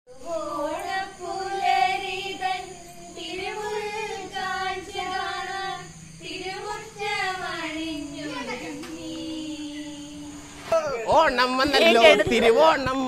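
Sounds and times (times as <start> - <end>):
person singing unaccompanied: 0.1 - 13.0.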